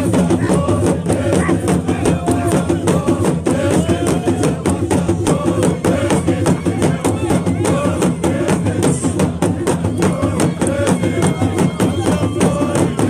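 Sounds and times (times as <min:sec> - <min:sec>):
drums beaten fast: 0:00.0 - 0:13.0
men chanting: 0:00.0 - 0:13.0.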